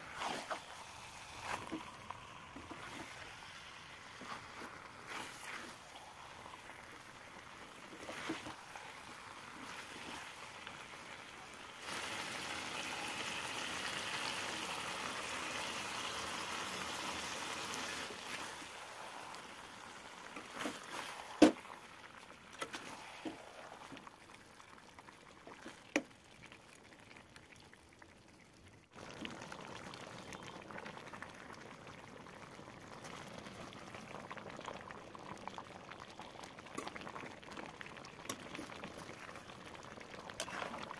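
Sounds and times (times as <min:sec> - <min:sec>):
curry sizzling and bubbling: 0:00.0 - 0:40.9.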